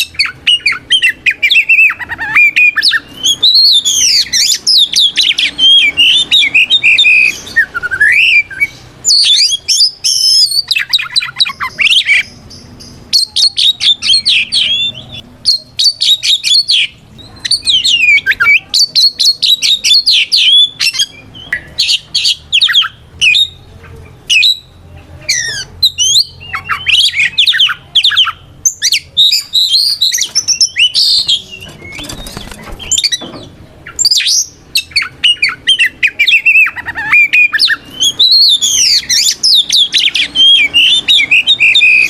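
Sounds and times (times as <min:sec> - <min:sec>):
bird singing whistled phrases: 0:00.0 - 0:12.2, 0:13.1 - 0:23.6, 0:24.3 - 0:24.7, 0:25.3 - 0:33.2, 0:33.8 - 0:42.0.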